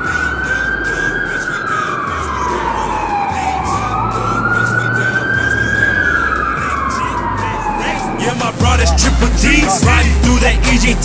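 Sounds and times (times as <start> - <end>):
siren wailing: 0.0 - 10.2.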